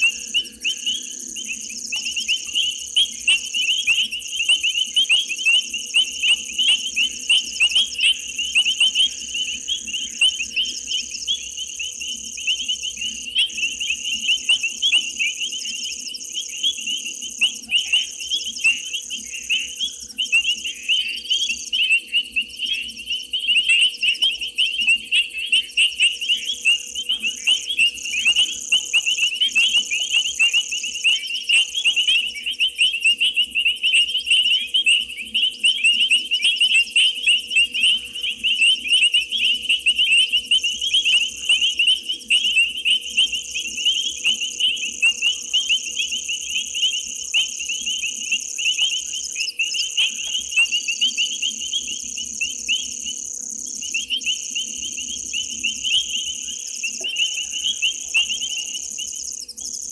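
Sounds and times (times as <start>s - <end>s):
high insect buzz: 0.0s - 59.9s.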